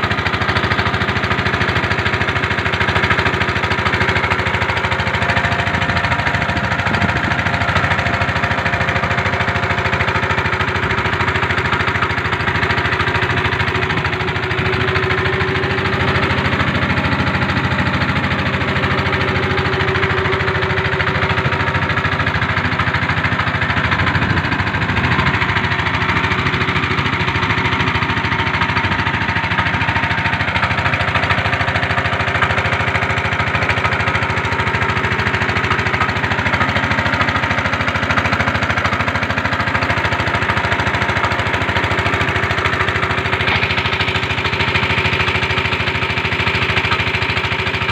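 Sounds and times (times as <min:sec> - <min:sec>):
boat engine pulsing: 0:00.0 - 0:47.9.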